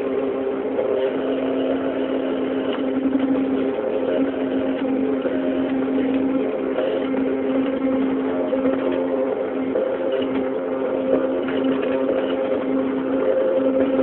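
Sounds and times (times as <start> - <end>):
machine motor humming: 0.0 - 14.0.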